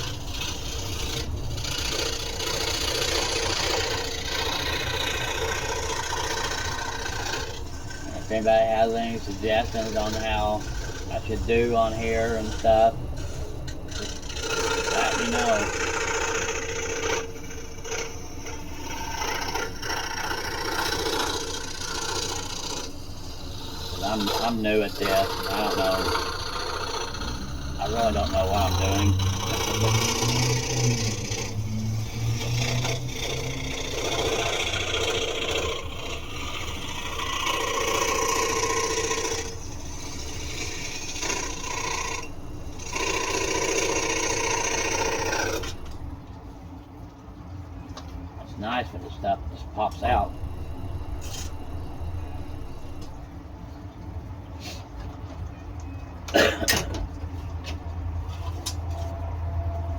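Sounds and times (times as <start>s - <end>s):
scroll saw cutting wood: 0.0s - 46.2s, 49.8s - 53.4s.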